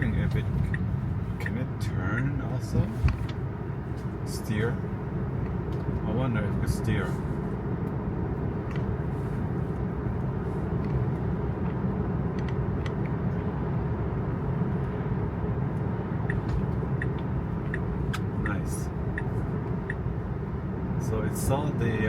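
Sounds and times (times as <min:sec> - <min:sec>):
turn signal ticking: 0:00.0 - 0:04.2, 0:04.9 - 0:06.1, 0:07.6 - 0:21.0
tyre and road noise: 0:00.0 - 0:22.0.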